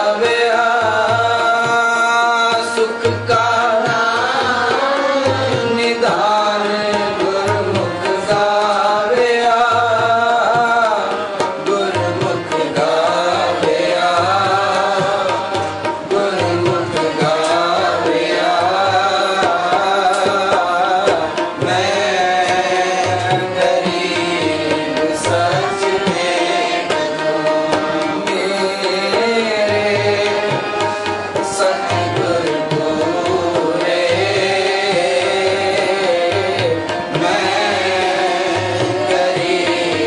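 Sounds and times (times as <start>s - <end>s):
harmonium melody: 0.0s - 40.0s
tabla rhythm: 0.0s - 40.0s.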